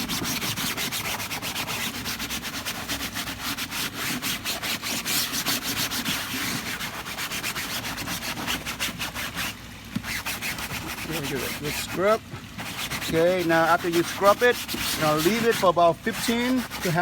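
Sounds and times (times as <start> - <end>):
sponge scrubbing mesh screen: 0.0 - 17.0.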